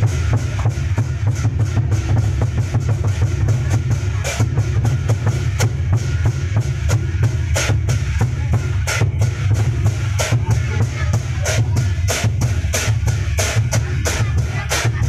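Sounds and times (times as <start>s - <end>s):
large drum beaten fast: 0.0s - 15.0s.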